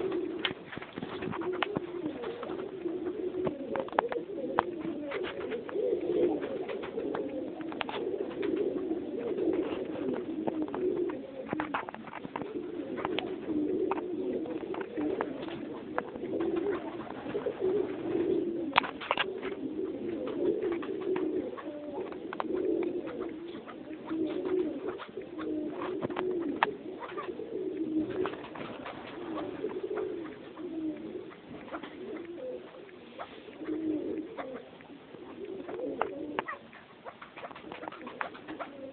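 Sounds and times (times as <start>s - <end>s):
partridges cooing chatter: 0.0s - 38.9s.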